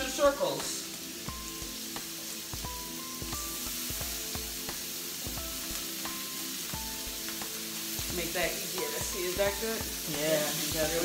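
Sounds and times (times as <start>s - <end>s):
scallops sizzling in a skillet: 0.0s - 11.0s
music with a steady beat: 0.5s - 11.0s.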